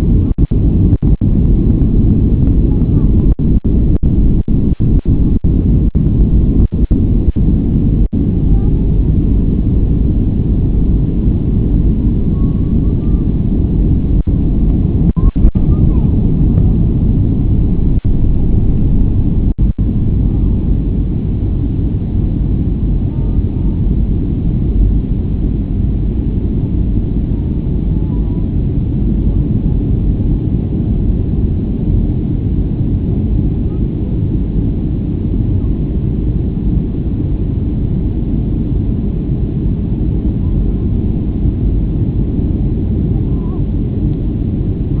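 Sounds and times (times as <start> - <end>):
jet engines rumbling in cabin: 0.0 - 45.0.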